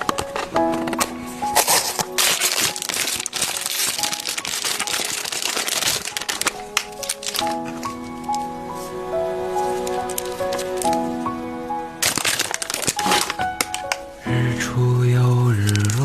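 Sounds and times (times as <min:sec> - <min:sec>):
plastic wrapping crinkling: 0:00.0 - 0:14.3, 0:15.2 - 0:16.0
background music: 0:00.0 - 0:16.0.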